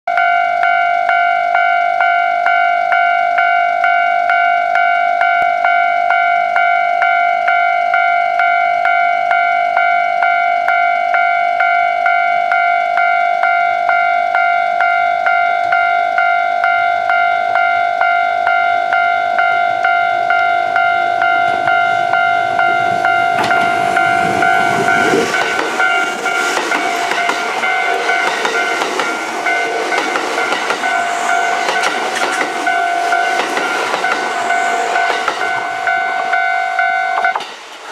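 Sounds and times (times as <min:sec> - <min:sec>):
level crossing bell ringing: 0:00.1 - 0:37.4
train wheels rumbling on rails: 0:00.2 - 0:37.9.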